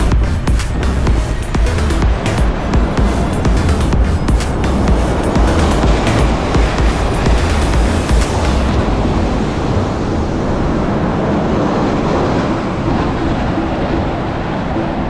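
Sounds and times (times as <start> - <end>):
road traffic rushing: 0.0 - 15.0
wind: 0.0 - 15.0.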